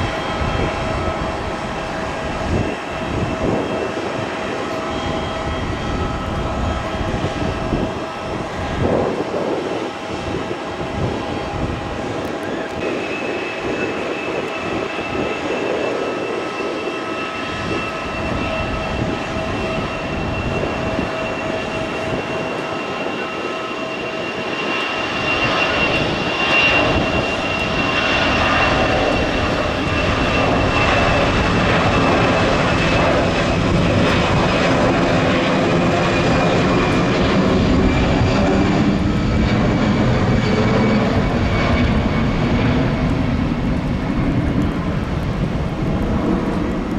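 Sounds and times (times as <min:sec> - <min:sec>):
jet engines whining and roaring: 0:00.0 - 0:46.9.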